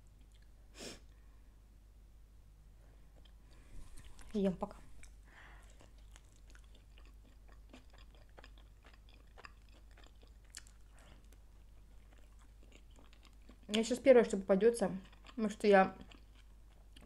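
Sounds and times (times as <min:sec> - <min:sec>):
faint chewing: 0:00.0 - 0:01.2, 0:03.1 - 0:17.0.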